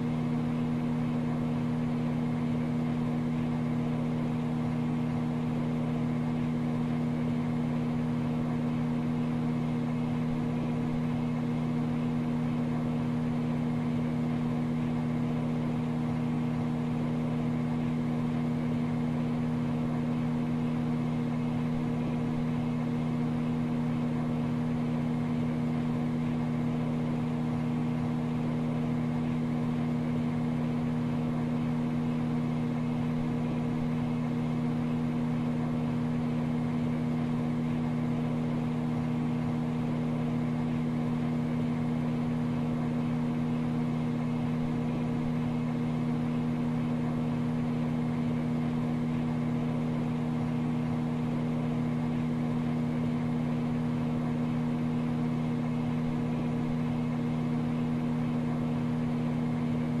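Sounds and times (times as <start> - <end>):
microwave oven humming: 0.0 - 60.0.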